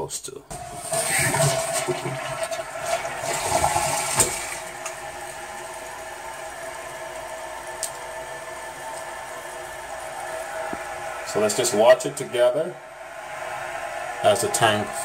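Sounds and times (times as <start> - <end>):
toilet water rushing: 0.5 - 15.0.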